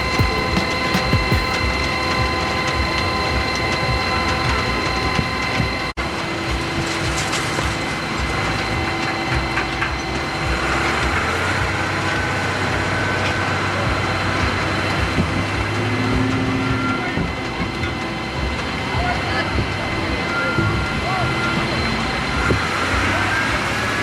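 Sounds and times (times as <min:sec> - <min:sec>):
faint whine: 0:00.0 - 0:24.0
tractor-driven machinery running: 0:00.0 - 0:24.0.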